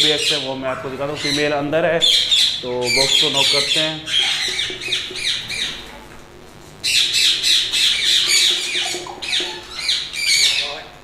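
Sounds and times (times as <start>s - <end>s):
parakeets squawking: 0.0s - 5.9s, 6.8s - 10.9s.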